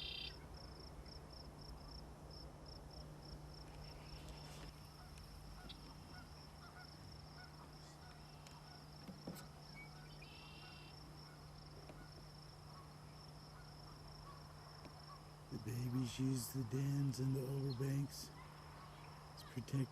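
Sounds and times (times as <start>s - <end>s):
repeated bird call: 0.0s - 1.0s, 3.8s - 19.9s.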